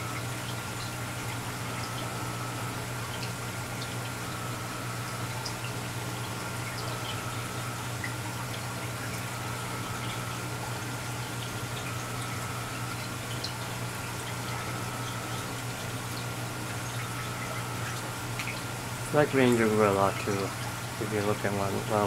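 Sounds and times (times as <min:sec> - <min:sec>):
pump hum: 0:00.0 - 0:22.0
water trickling and bubbling: 0:00.0 - 0:22.0
faint drips: 0:00.2 - 0:22.0.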